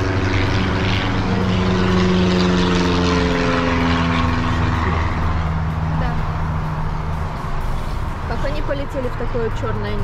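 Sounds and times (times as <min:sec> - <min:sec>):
propeller airplane engine drone: 0:00.0 - 0:10.0.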